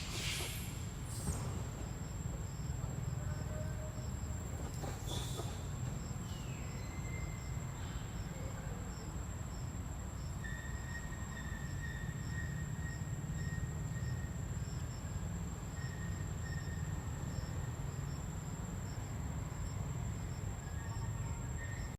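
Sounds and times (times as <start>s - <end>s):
insects droning and chirping: 0.0s - 21.9s.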